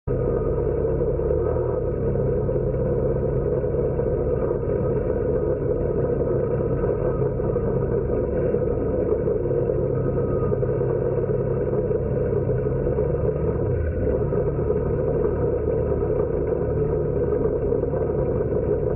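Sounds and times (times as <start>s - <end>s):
atv engine running: 0.1s - 18.9s.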